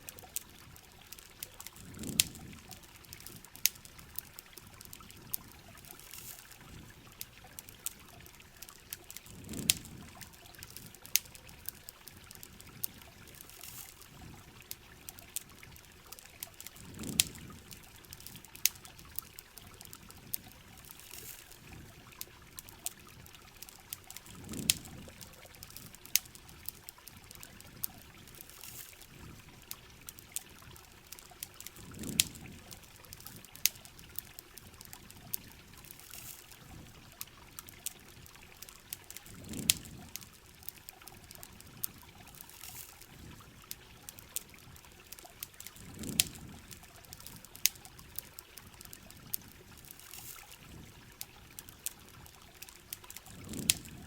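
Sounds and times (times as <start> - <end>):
campfire crackling: 0.0 - 54.0
pouring trickling water: 0.0 - 54.0.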